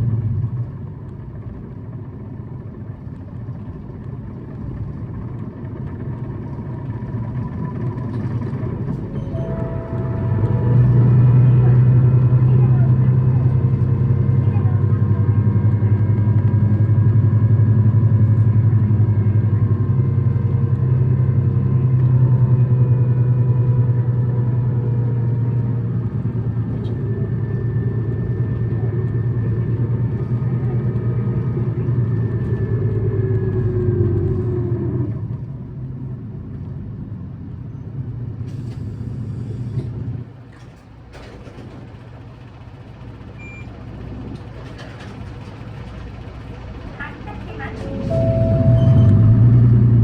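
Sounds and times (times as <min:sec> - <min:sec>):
bus engine running hard: 0:00.0 - 0:50.0.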